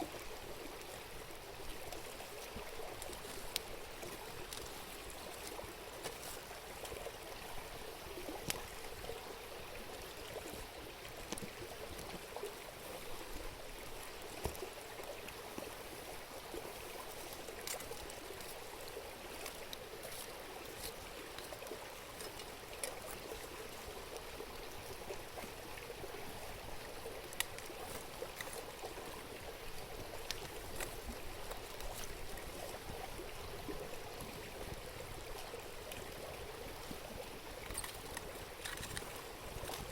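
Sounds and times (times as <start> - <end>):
river babbling: 0.0 - 39.9.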